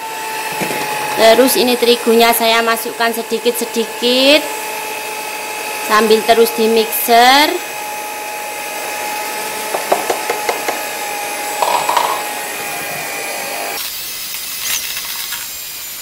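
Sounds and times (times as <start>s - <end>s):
electric hand mixer whirring: 0.0s - 16.0s.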